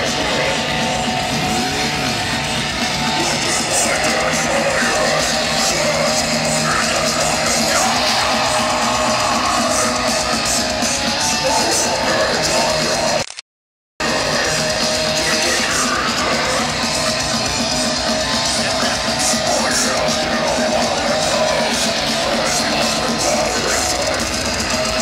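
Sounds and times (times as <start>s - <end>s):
heavy metal music with electric guitars: 0.0s - 13.2s, 14.0s - 25.0s.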